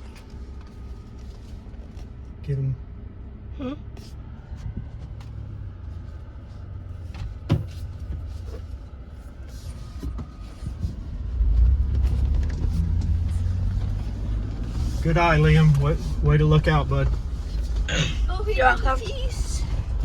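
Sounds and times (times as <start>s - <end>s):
engine and tyres rumbling: 0.0s - 20.0s.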